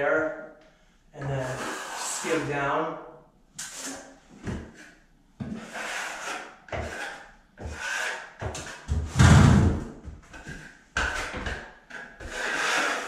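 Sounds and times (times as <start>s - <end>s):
trowel scraping drywall: 1.2s - 2.5s, 3.6s - 13.0s.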